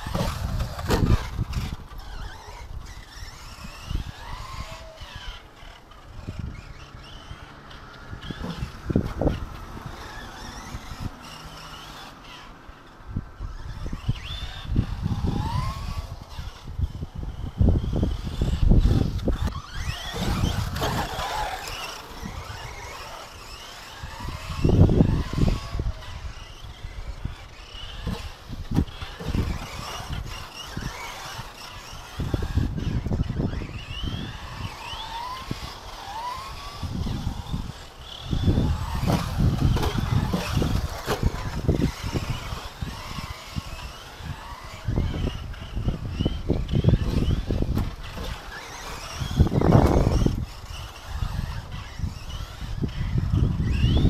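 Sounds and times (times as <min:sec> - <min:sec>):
electric motor whining: 0:00.0 - 0:54.0
wind rumbling on microphone: 0:00.0 - 0:54.0.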